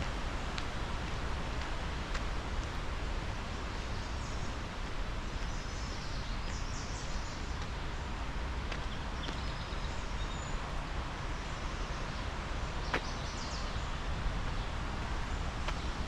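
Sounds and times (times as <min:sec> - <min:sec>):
steady low rushing noise: 0:00.0 - 0:16.0.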